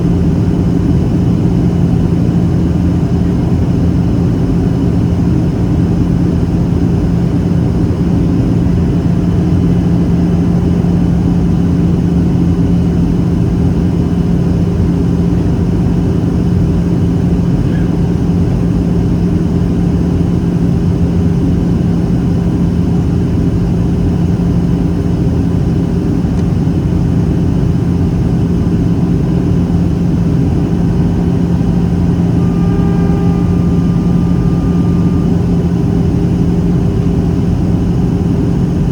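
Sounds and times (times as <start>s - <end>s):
constant low hum: 0.0s - 38.9s
jet engines droning: 0.0s - 38.9s.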